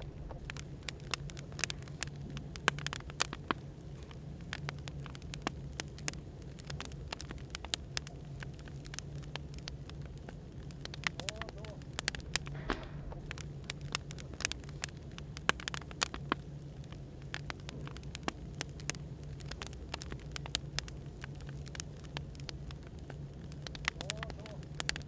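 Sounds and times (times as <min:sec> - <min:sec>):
low hum of white noise: 0:00.0 - 0:25.0
wood fire crackling: 0:00.0 - 0:25.0.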